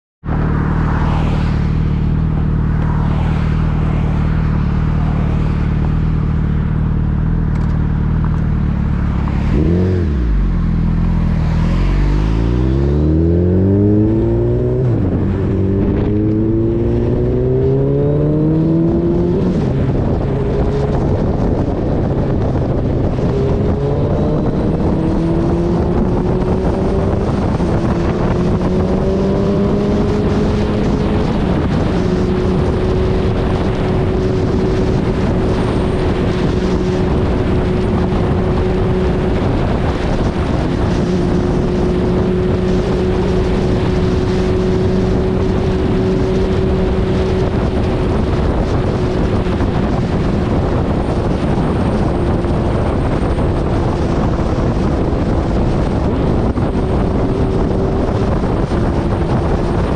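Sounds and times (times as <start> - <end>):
motorcycle engine accelerating: 0.2 - 59.9.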